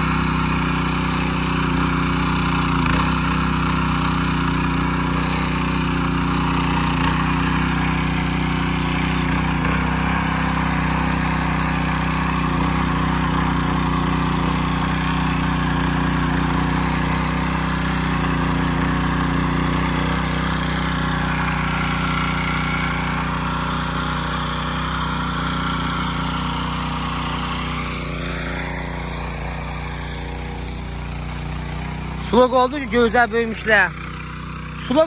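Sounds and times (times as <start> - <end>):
rotary tiller running: 0.0 - 35.0.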